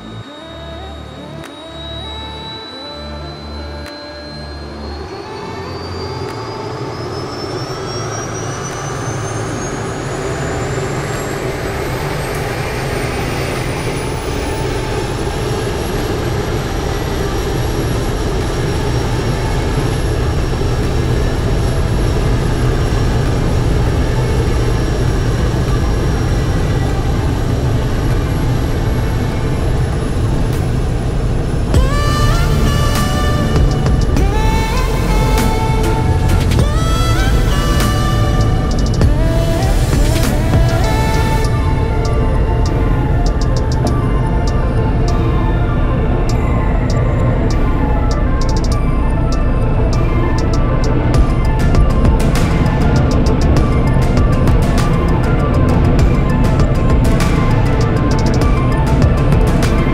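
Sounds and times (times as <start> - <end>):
low propeller drone: 0.0 - 59.9
turbine whine rising in pitch: 0.0 - 59.9.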